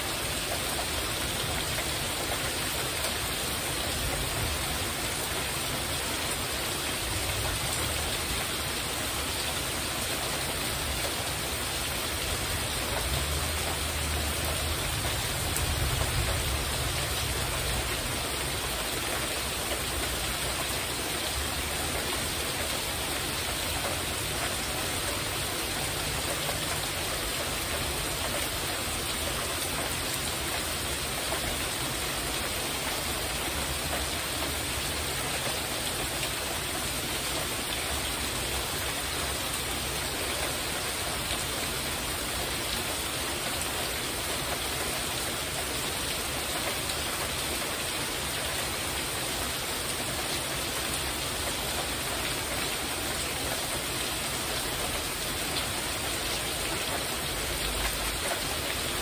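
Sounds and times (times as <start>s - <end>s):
heavy rain on roof: 0.0s - 59.0s.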